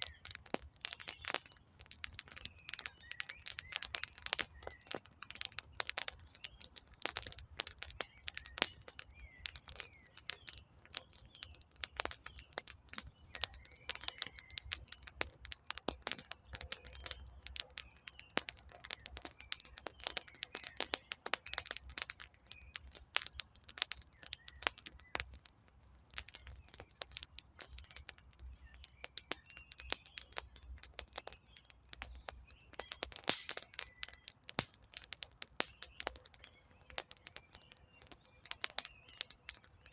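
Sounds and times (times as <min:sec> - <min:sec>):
campfire crackling and popping: 0:00.0 - 0:39.9
faint birdsong: 0:00.0 - 0:39.9.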